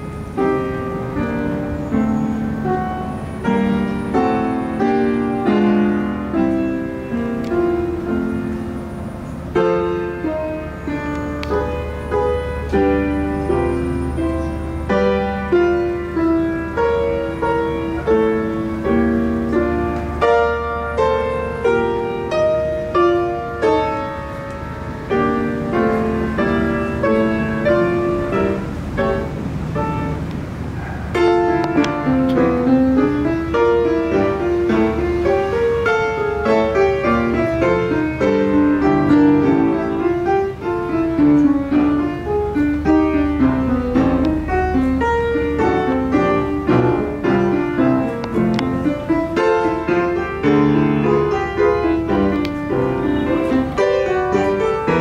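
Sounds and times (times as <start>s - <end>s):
solo grand piano: 0.0s - 55.0s.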